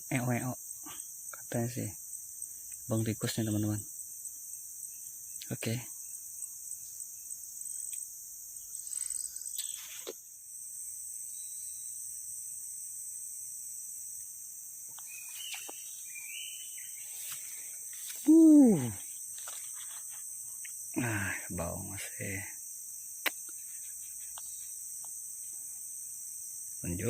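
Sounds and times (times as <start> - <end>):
crickets and insects chorus: 0.0 - 27.0.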